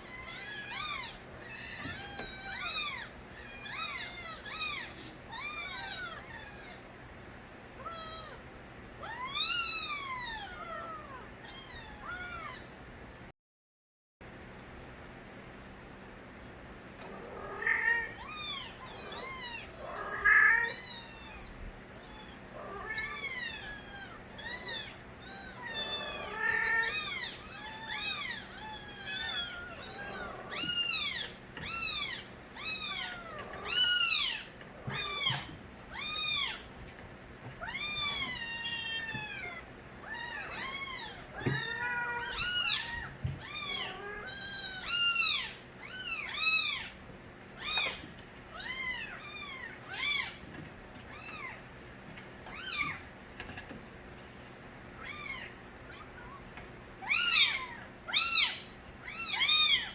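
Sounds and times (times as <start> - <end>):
kittens meowing: 0.0 - 6.9, 7.8 - 8.4, 9.0 - 12.7, 17.0 - 36.7, 37.4 - 51.7, 52.4 - 53.1, 55.0 - 59.9.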